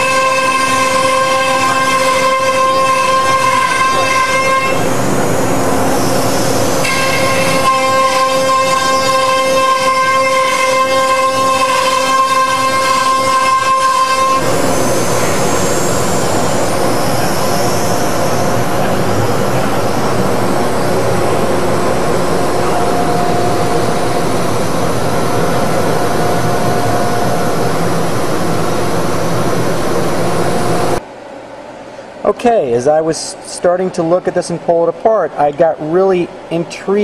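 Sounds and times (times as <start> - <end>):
loud rushing machine noise: 0.0 - 31.0
router spindle whine: 0.0 - 31.0.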